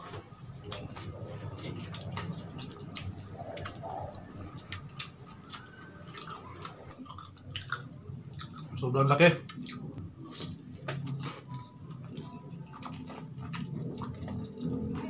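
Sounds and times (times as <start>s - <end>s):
chewing with wet mouth smacks: 0.0s - 15.0s.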